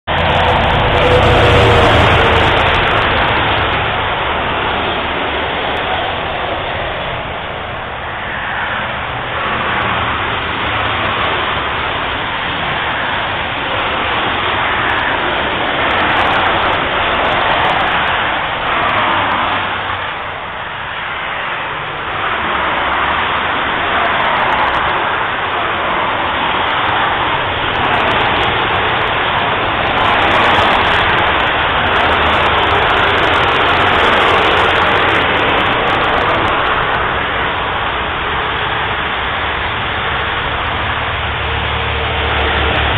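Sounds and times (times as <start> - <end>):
engine rumble of passing vehicles: 0.0 - 42.9
traffic tyre roar on wet road: 0.0 - 42.9.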